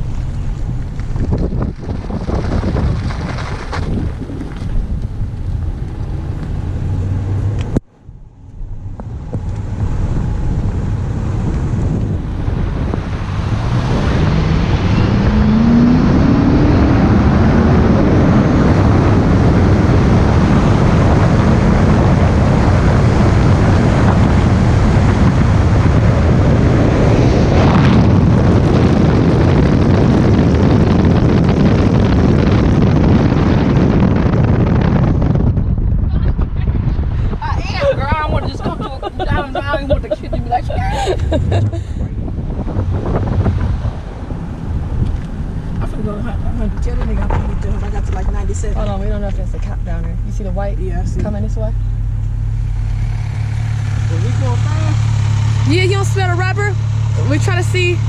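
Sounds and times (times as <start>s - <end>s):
vehicle engine accelerating: 0.0s - 58.0s
wind and road noise: 0.0s - 58.0s.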